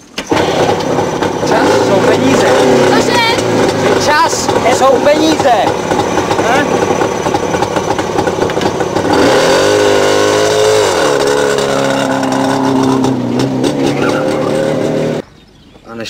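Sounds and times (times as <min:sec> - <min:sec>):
two-stroke motorcycle engine: 0:00.2 - 0:15.2.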